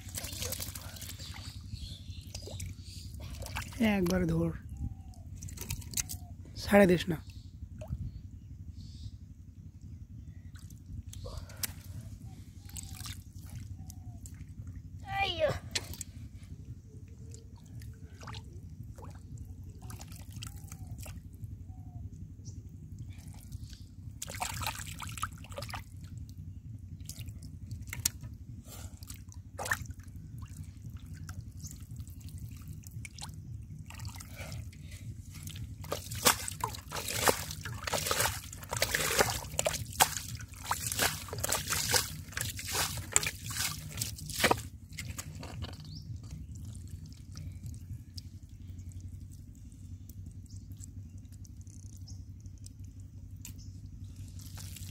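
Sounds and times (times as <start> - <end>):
shallow water splashing: 0.0 - 4.3, 10.5 - 16.1, 17.2 - 21.4, 22.8 - 54.9
steady low rumble: 0.0 - 54.9.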